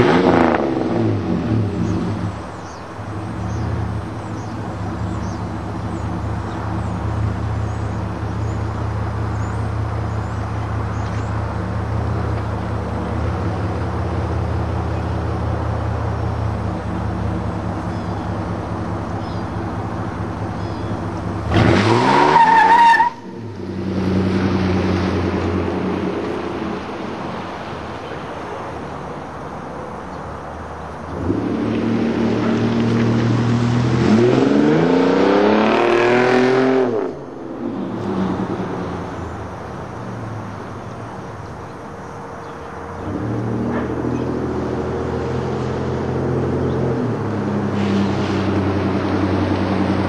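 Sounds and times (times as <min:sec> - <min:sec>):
truck engine idling and revving: 0:00.0 - 0:50.0.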